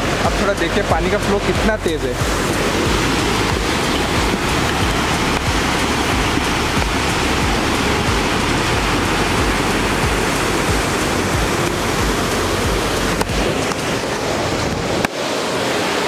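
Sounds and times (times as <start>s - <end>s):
turbulent water rushing: 0.0s - 16.0s.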